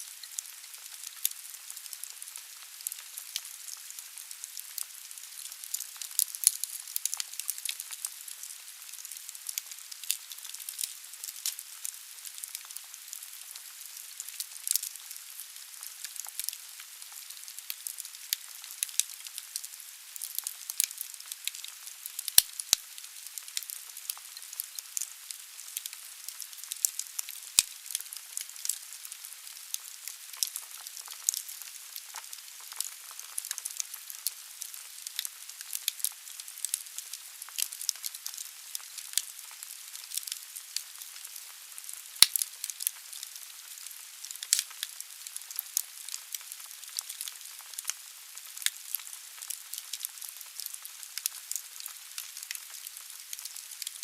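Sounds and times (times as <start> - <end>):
logs crackling and popping: 0.2 - 54.0.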